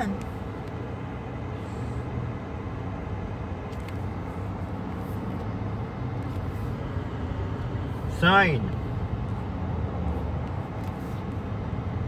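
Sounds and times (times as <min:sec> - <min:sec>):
car engine and tyre hum: 0:00.0 - 0:12.0.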